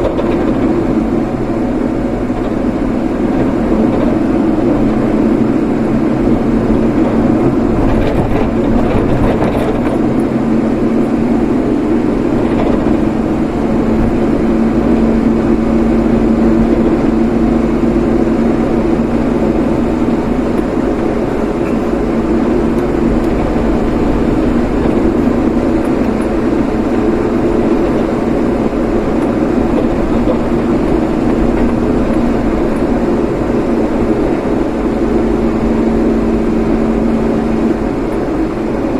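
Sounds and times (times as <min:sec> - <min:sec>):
road and tyre rumble: 0:00.0 - 0:38.9
vehicle engine drone: 0:00.0 - 0:38.9.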